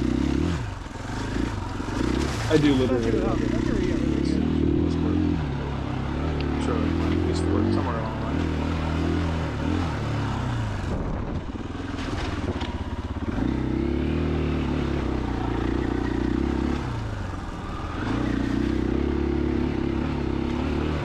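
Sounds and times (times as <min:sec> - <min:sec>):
motorcycle engine: 0:00.0 - 0:21.0.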